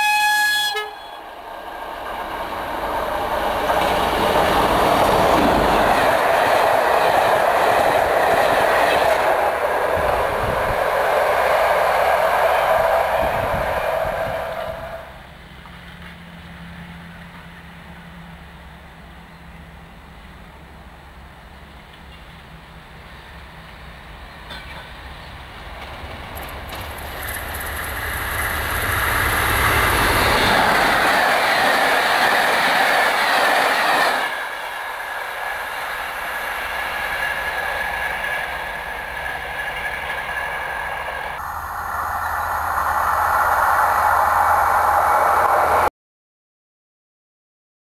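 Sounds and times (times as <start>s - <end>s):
diesel locomotive engine rumble: 0.0s - 45.9s
train passing at speed: 0.0s - 45.9s.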